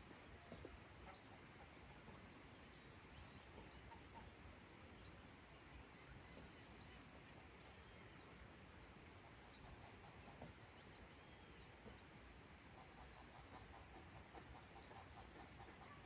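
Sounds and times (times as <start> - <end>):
faint bird chirps: 0.1 - 8.6, 9.2 - 12.2, 12.8 - 16.0.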